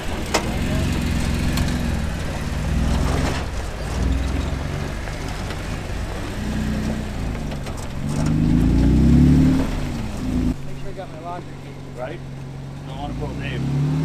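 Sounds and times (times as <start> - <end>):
engine revving under load: 0.0 - 14.0.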